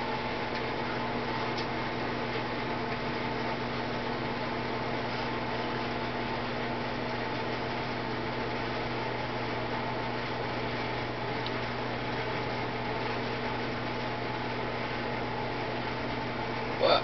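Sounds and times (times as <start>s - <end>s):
steady appliance hum with hiss: 0.0s - 17.0s.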